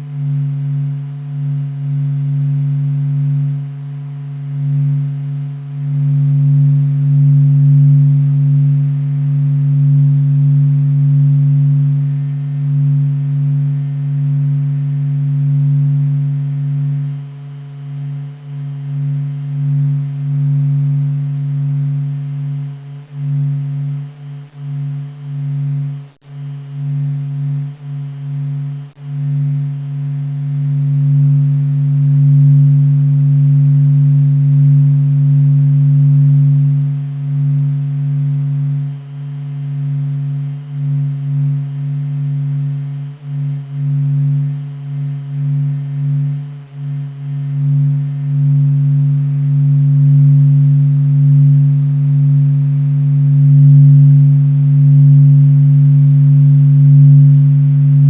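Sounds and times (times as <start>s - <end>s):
faint higher overtone: 0.0s - 58.0s
low droning hum: 0.0s - 58.0s.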